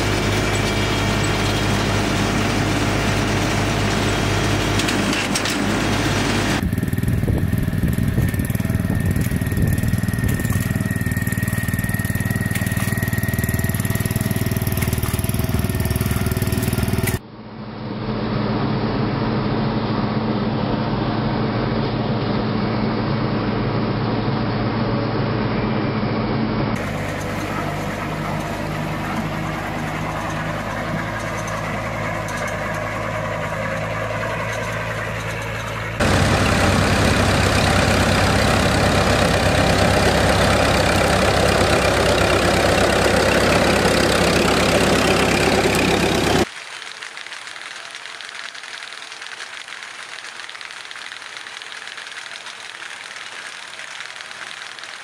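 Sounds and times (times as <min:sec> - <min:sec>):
tractor engine running: 0:00.0 - 0:17.2, 0:26.6 - 0:55.0
walk-behind tractor engine running: 0:00.0 - 0:17.2, 0:26.8 - 0:55.0.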